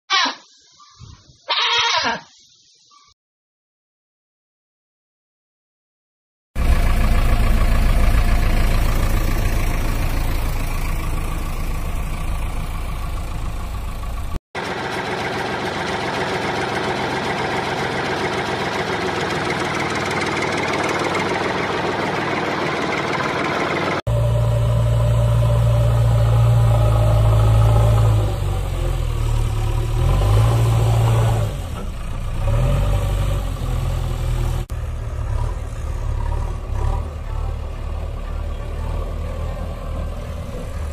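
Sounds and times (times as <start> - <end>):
vehicle engine running: 6.6 - 40.9.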